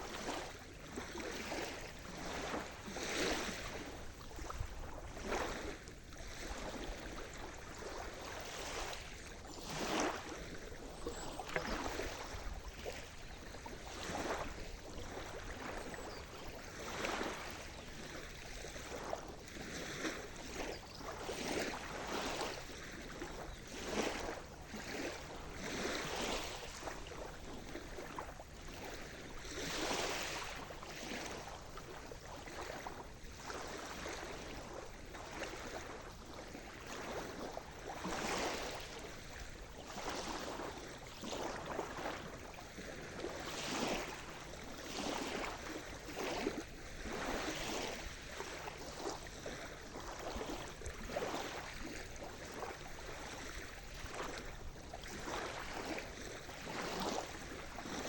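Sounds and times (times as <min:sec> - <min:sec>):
small waves breaking: 0:00.0 - 0:58.0.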